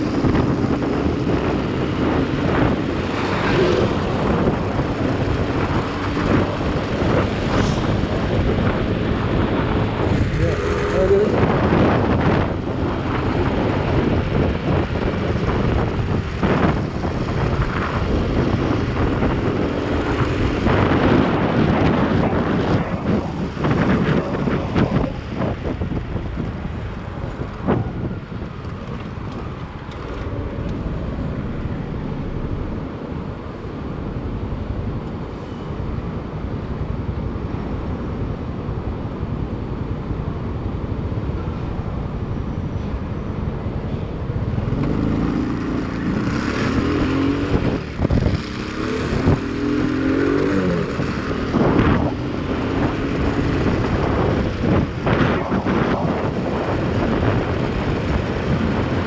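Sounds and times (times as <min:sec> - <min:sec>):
motorcycle engine and road rumble: 0:00.0 - 0:59.0
wind buffeting microphone: 0:00.0 - 0:59.0.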